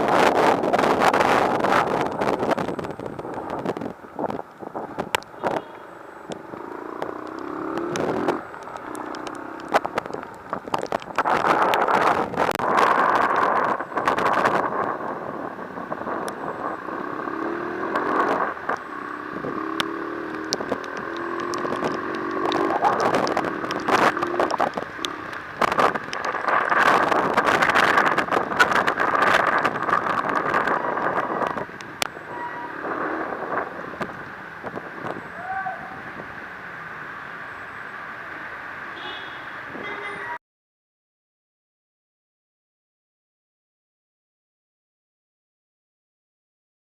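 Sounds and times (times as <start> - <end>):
vehicle road noise: 0.0 - 40.4
rain hiss with ticks and knocks: 0.2 - 39.6.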